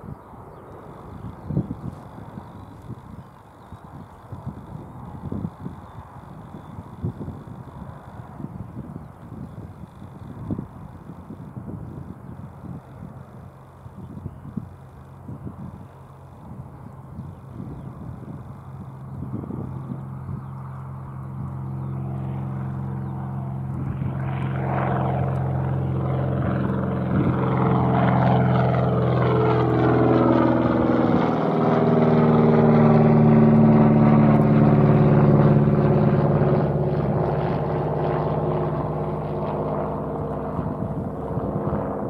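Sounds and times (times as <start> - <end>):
propeller aircraft passing overhead: 0.0 - 42.0.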